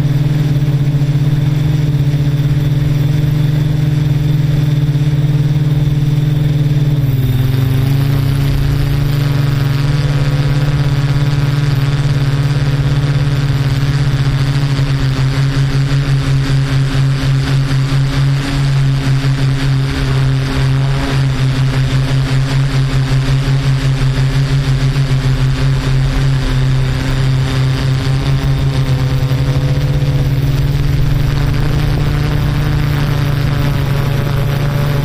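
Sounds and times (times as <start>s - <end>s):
drone propellers humming: 0.0s - 35.0s.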